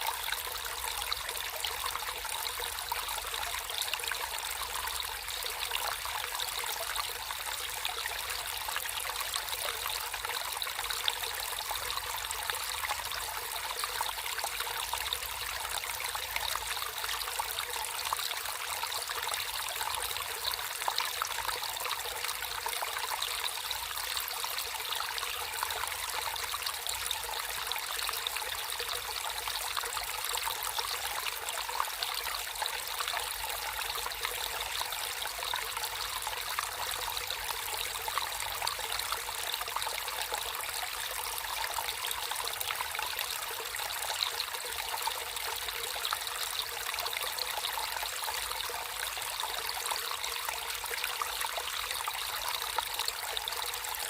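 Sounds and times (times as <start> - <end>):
stream water trickling: 0.0 - 54.0.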